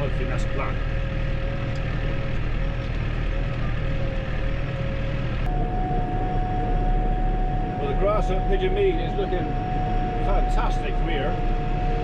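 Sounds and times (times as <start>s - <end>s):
thin steady whine: 0.0s - 12.0s
tractor engine drone: 0.0s - 12.0s.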